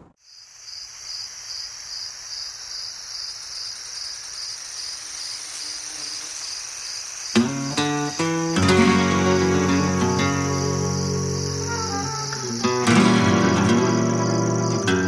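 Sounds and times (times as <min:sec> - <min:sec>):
crickets chirping: 0:00.2 - 0:15.0.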